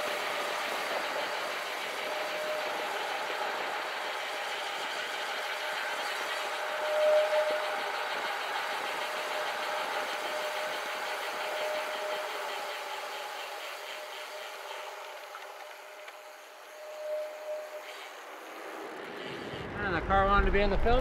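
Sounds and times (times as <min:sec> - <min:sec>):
bicycle freehub ratchet buzzing: 0:00.0 - 0:19.4
thin whine: 0:00.0 - 0:21.0.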